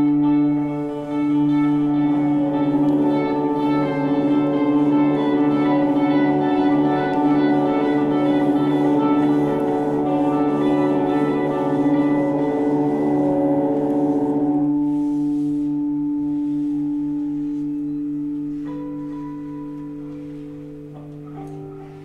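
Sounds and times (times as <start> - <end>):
ringing guitar drone: 0.0 - 22.0.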